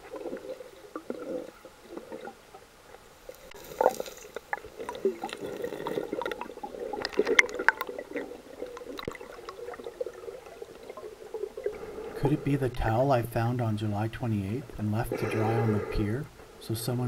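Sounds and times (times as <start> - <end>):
underwater sloshing and gurgling: 0.0 - 16.8.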